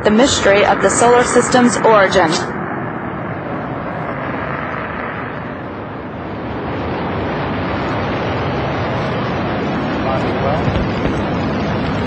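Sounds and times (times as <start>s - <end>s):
rocket engine exhaust roar: 0.0s - 12.0s.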